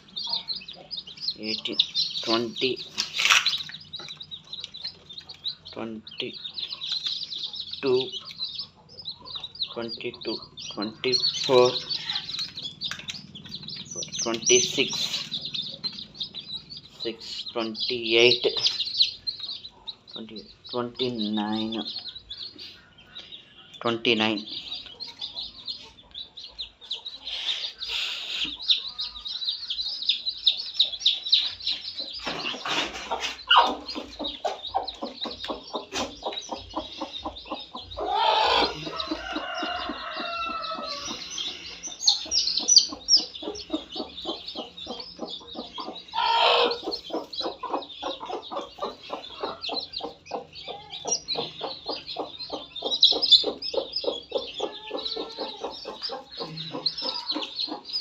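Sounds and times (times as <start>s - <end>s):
chicks peeping: 0.0s - 58.0s
hen clucking: 0.0s - 58.0s.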